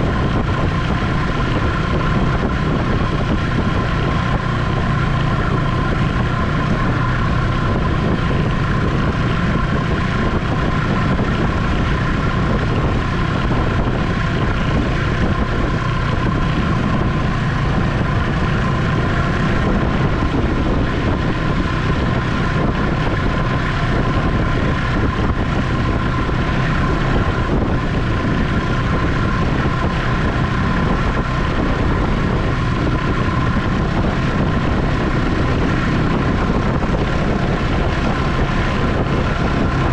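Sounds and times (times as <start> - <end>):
high whine: 0.0 - 39.9
snowmobile engine drone: 0.0 - 39.9
wind on microphone: 0.0 - 39.9.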